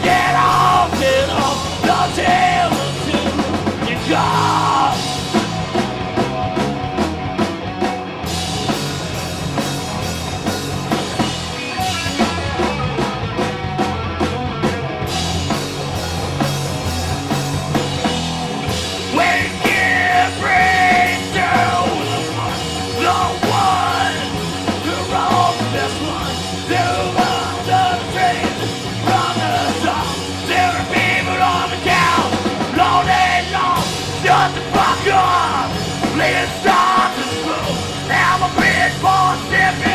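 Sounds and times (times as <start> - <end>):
punk rock band playing: 0.0 - 39.9
yelled vocals: 0.0 - 39.9.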